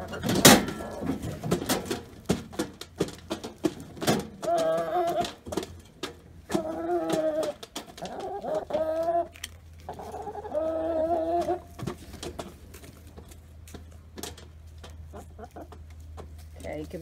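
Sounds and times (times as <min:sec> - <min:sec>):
hens calling: 0:00.0 - 0:16.8.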